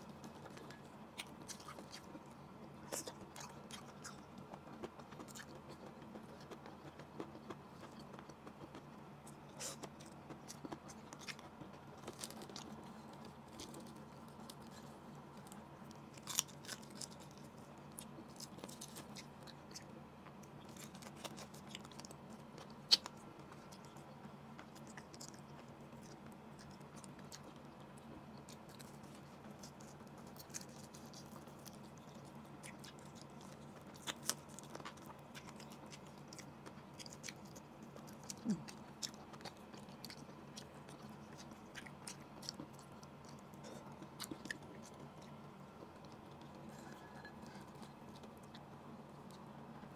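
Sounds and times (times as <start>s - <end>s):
faint hum: 0.0s - 49.9s
chewing and mouth sounds: 0.1s - 49.8s.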